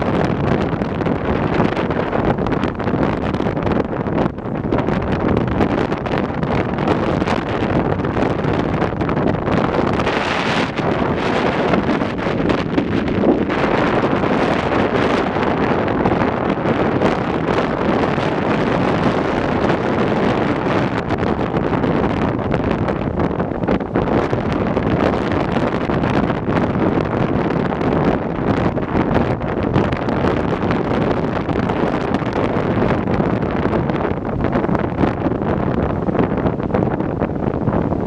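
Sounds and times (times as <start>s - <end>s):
storm waves rushing: 0.0s - 38.0s
wind gusting on microphone: 0.0s - 38.0s.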